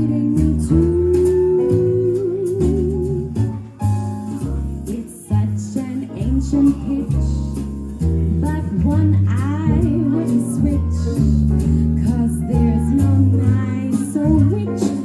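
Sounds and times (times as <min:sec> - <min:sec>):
woman singing swing song: 0:00.0 - 0:03.6, 0:04.7 - 0:15.0
bass line: 0:00.0 - 0:15.0
live band accompaniment: 0:00.0 - 0:15.0.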